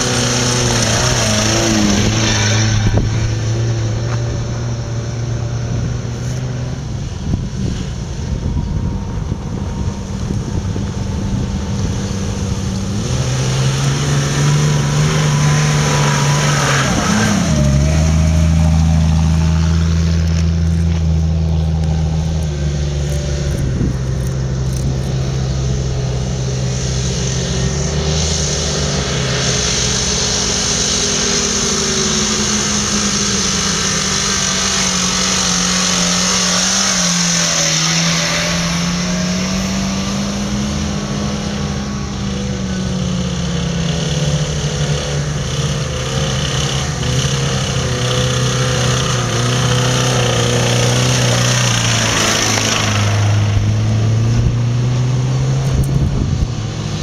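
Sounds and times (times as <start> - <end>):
off-road vehicle engines driving: 0.0 - 57.0.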